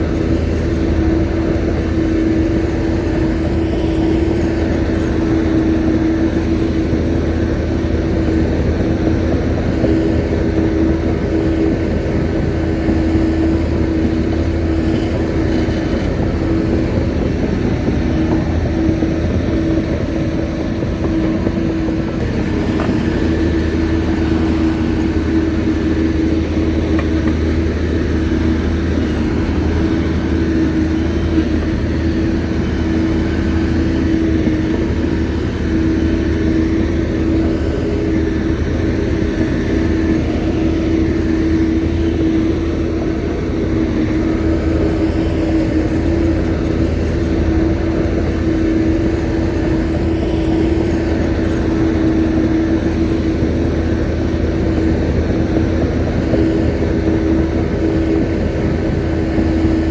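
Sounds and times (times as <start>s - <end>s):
bulldozer diesel engine whining: 0.0s - 59.9s.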